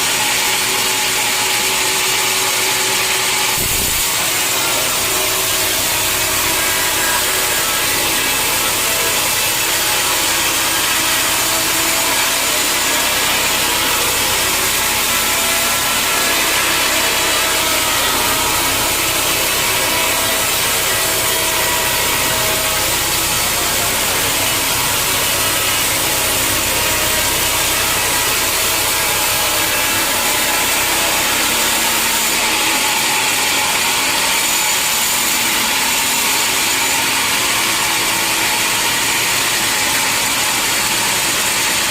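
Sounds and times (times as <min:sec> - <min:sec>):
saw cutting through log: 0:00.0 - 0:41.9.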